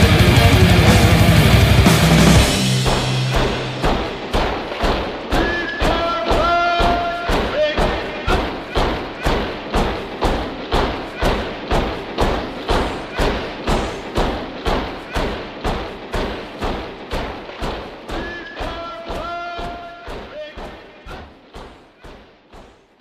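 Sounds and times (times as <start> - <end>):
heavy rhythmic thuds: 0.0 - 23.0.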